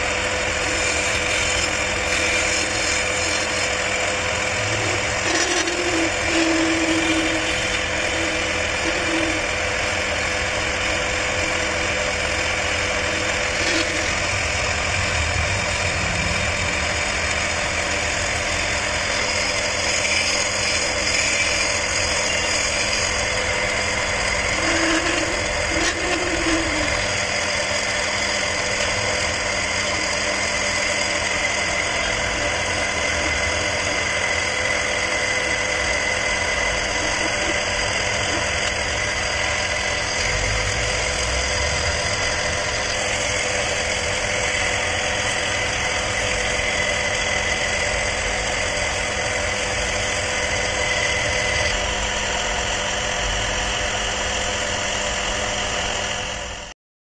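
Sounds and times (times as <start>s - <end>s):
chisel cutting wood: 0.0s - 56.2s
wood lathe humming: 0.0s - 56.7s.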